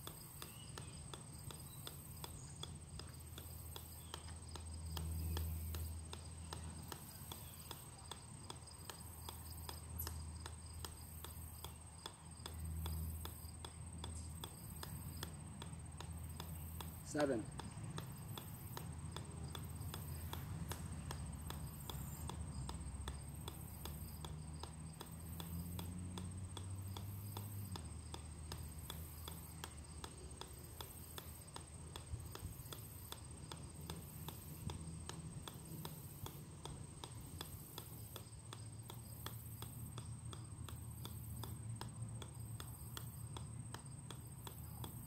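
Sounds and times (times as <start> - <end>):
golf ball bouncing on metal: 0.0 - 45.0.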